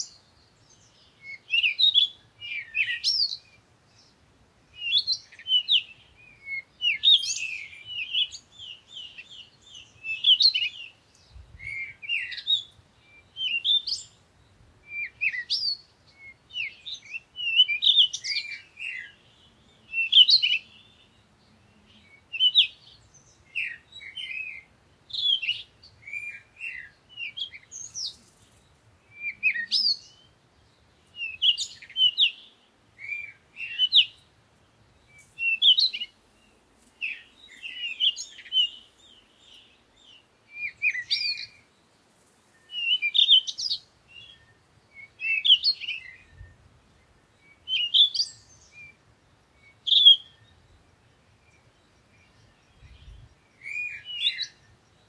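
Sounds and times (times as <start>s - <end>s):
bird chirping: 0.0s - 55.0s.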